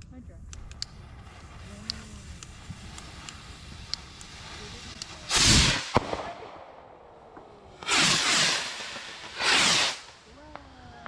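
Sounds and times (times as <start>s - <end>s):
firework crack: 0.0s - 11.0s
firework rocket whoosh: 0.1s - 11.0s.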